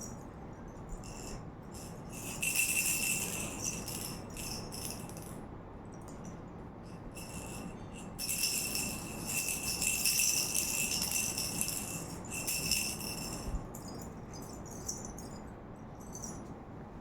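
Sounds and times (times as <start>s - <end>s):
toy rattle with bells jingling: 0.0s - 5.5s, 6.1s - 16.5s.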